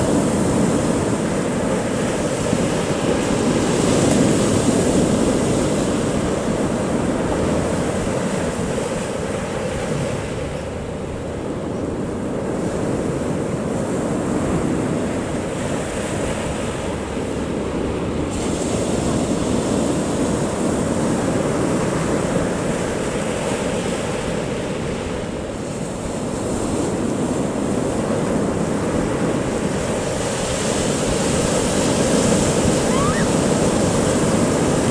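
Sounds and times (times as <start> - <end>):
waves breaking on beach: 0.0 - 34.9
wind on microphone: 0.0 - 34.9.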